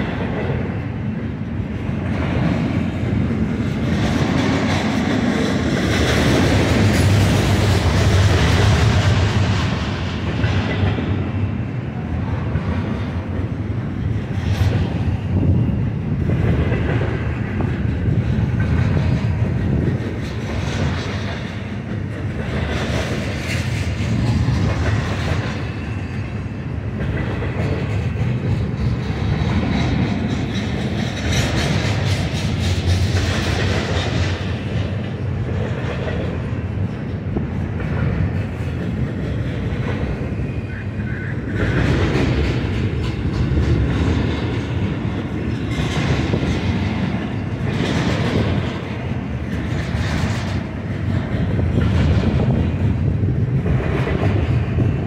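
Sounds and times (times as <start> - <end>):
clickety-clack over rail joints: 0.0 - 55.0
freight train wheels rumbling on rail: 0.0 - 55.0.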